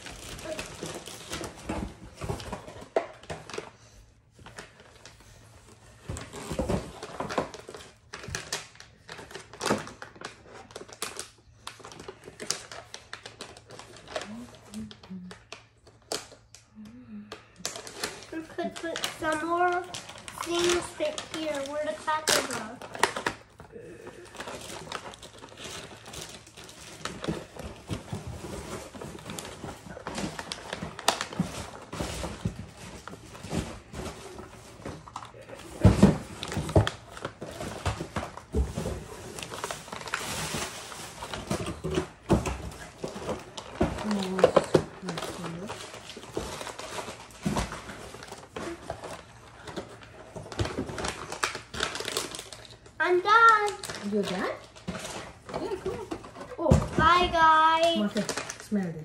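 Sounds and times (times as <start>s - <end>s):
snack packaging rustling: 0.0s - 59.0s.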